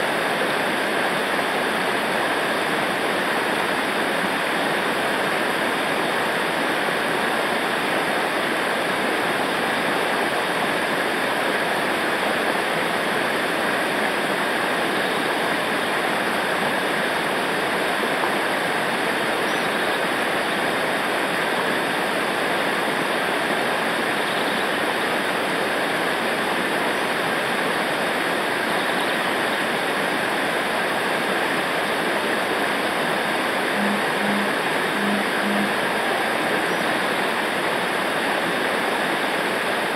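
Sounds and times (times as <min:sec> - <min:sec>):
river water roaring over rapids: 0:00.0 - 0:39.9.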